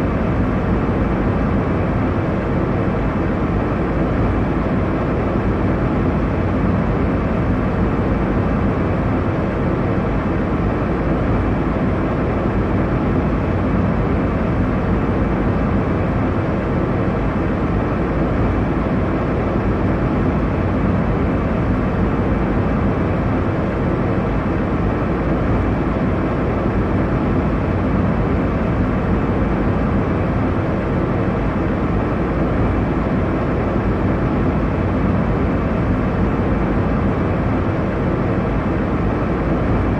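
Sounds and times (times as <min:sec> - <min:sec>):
airliner cabin engine rush: 0:00.0 - 0:39.9.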